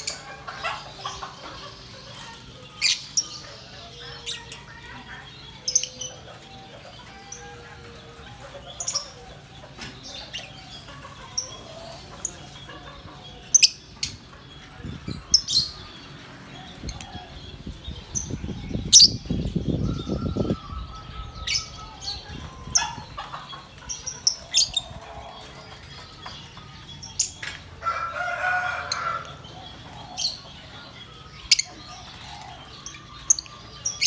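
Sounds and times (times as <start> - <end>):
lovebirds chirping: 0.0 - 34.0.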